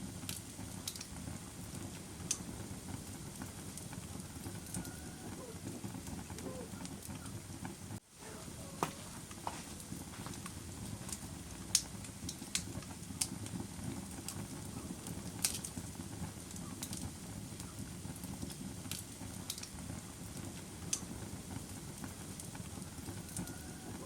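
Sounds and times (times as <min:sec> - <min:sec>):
campfire flames rushing: 0:00.0 - 0:24.0
wood crackling and popping: 0:00.0 - 0:24.0.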